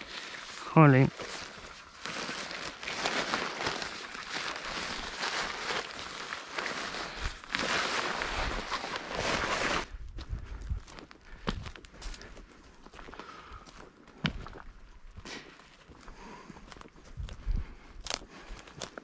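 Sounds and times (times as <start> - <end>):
rustling and crunching dry brush: 0.0 - 19.0.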